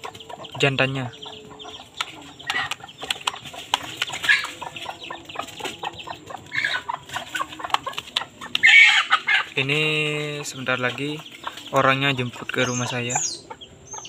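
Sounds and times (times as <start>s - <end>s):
birds clucking: 0.0s - 14.0s.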